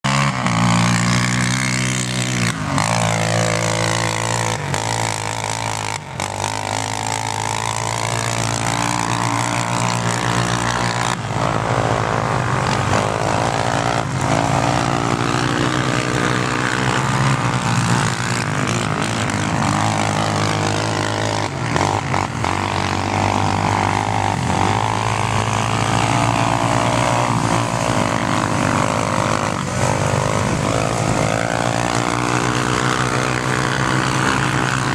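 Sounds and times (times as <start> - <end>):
atv engines revving: 0.0 - 34.9.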